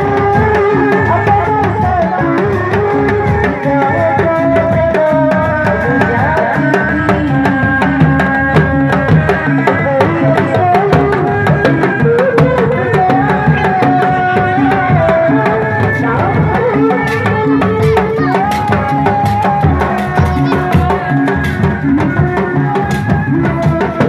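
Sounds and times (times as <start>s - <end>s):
drums beating fast rhythm: 0.0s - 24.0s.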